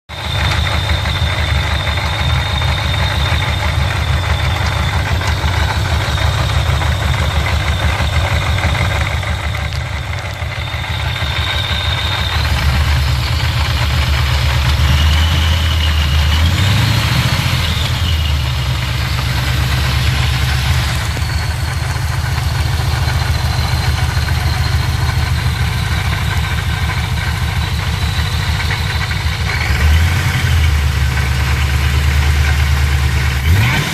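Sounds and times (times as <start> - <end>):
car engine running: 0.1 - 33.9
supercharger high-pitched whine: 0.2 - 33.9.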